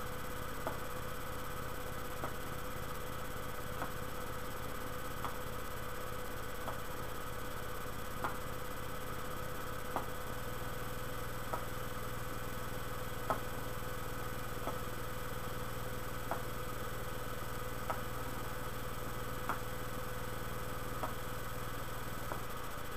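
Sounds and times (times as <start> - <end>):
room tone hum and hiss: 0.0 - 22.9.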